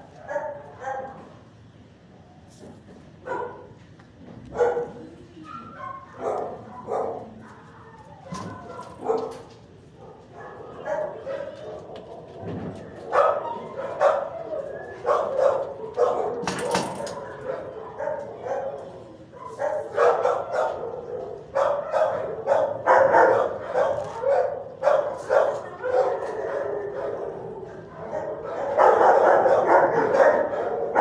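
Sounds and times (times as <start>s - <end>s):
dogs barking: 0.0s - 1.3s, 3.2s - 3.8s, 4.5s - 31.0s.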